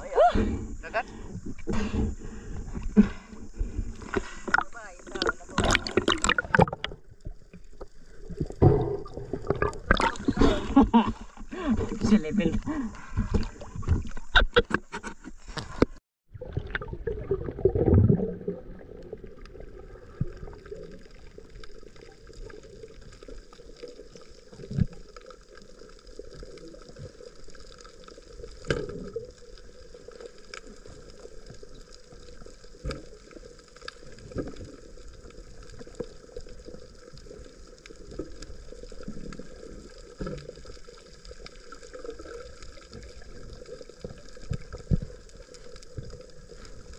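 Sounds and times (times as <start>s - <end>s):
water gurgling and sloshing: 0.0s - 46.9s.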